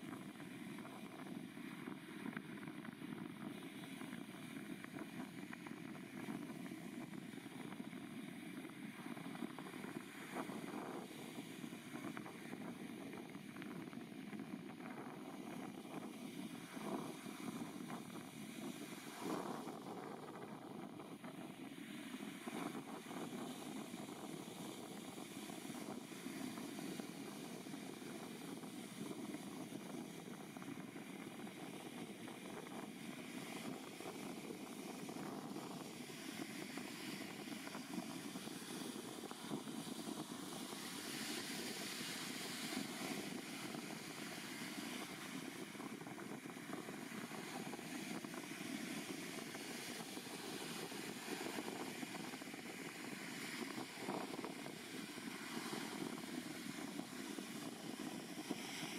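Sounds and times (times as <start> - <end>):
turboprop airliner drone: 0.0 - 58.9.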